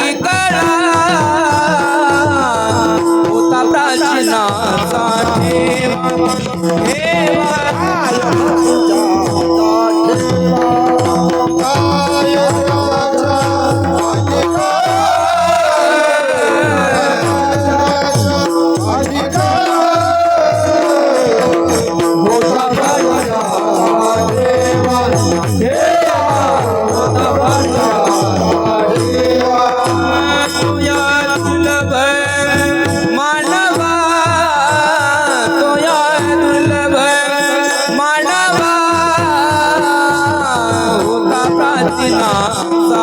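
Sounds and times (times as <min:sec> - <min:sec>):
jingling hand cymbals: 0:00.0 - 0:43.0
mridang drumming: 0:00.0 - 0:43.0
person singing devotional melody: 0:00.0 - 0:43.0.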